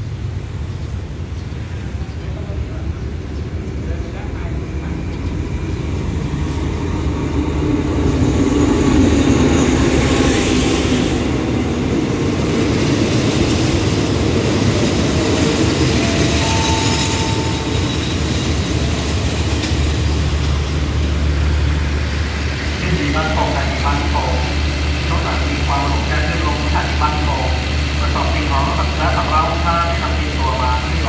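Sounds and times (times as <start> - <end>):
diesel locomotive passing: 0.0 - 31.0
train coaches rumbling past: 0.0 - 31.0.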